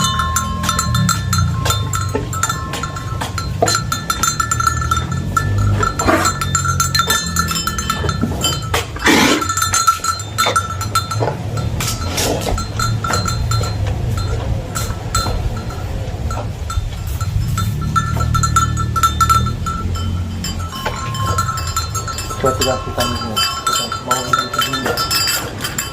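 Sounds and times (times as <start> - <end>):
metal cowbell clanking: 0.0 - 25.9.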